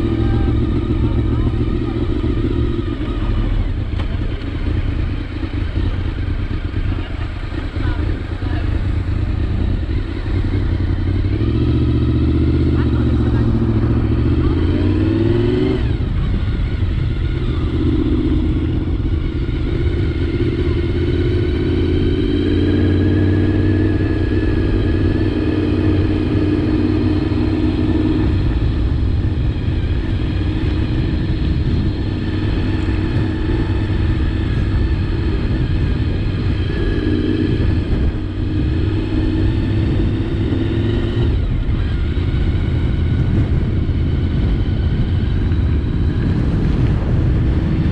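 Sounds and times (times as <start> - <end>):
low rumble: 0.0 - 47.9
motorcycle engine cruising: 0.0 - 47.9.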